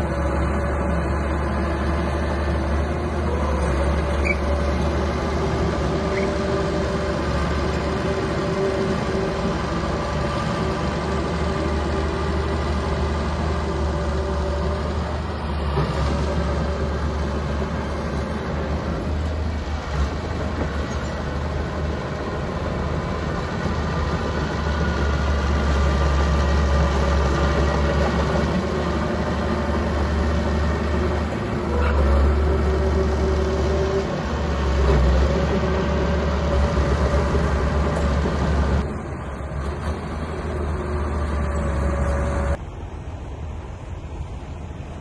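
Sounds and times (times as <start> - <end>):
bulldozer engine running: 0.0 - 45.0.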